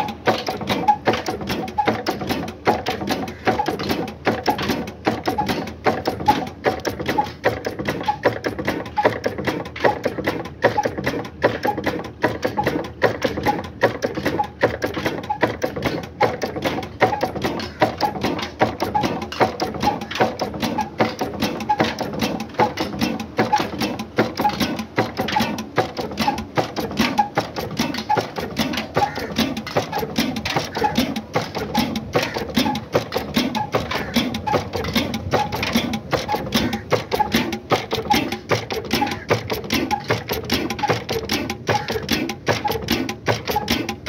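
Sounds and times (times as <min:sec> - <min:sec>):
diesel engine clattering: 0:00.0 - 0:44.0.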